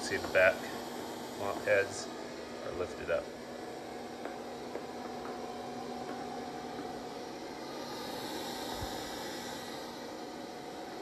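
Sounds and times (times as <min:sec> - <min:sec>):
robot vacuum whirring hum: 0:00.0 - 0:11.0.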